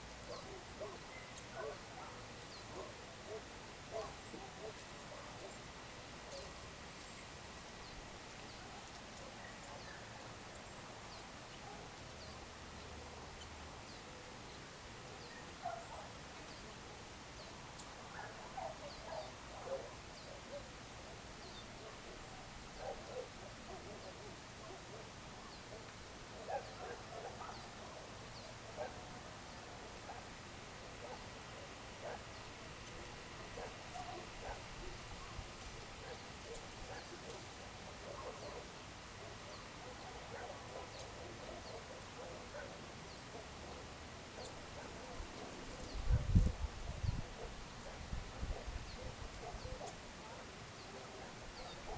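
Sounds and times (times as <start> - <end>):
bird chorus chirping: 0.0 - 5.6, 7.8 - 29.2, 32.1 - 47.6, 48.6 - 51.9
steady background hiss: 0.0 - 51.9.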